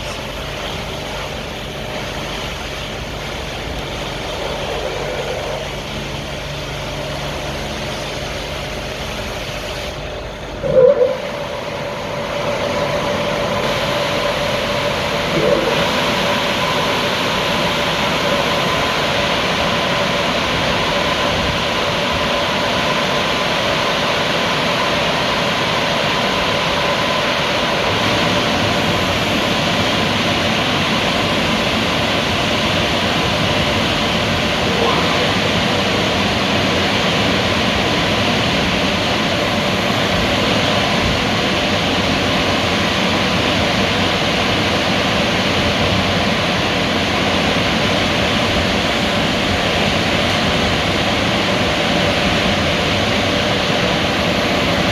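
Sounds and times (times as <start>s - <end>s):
faint motor whine: 0.0s - 54.9s.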